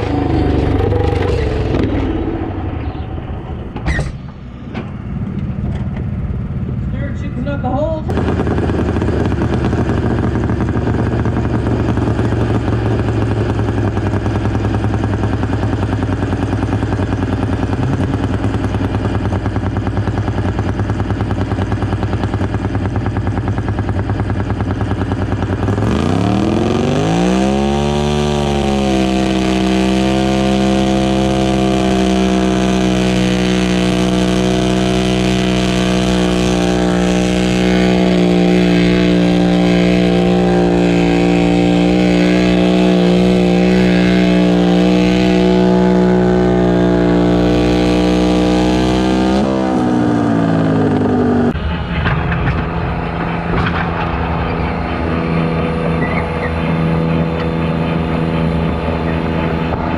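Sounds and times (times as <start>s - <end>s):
garden tractor engine idling and revving: 0.0s - 59.9s.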